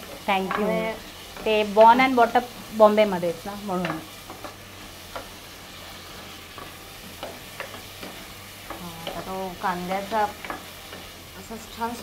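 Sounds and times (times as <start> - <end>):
onion and tomato sizzling in oil: 0.0 - 12.0.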